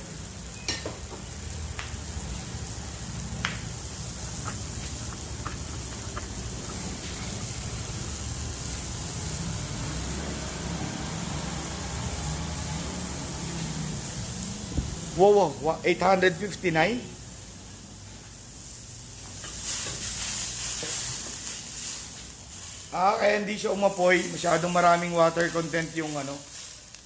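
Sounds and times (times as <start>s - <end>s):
broth bubbling in a wok: 0.0s - 15.7s, 17.0s - 27.0s.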